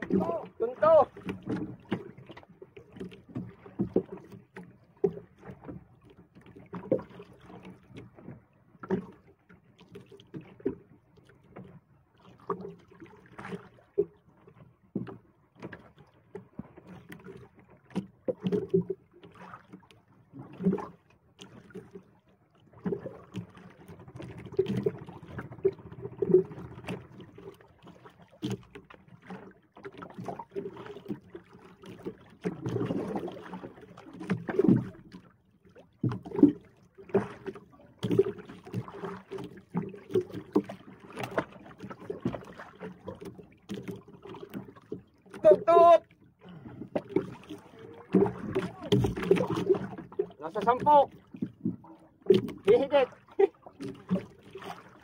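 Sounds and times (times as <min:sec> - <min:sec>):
water moving against boat: 0:00.0 - 0:55.0.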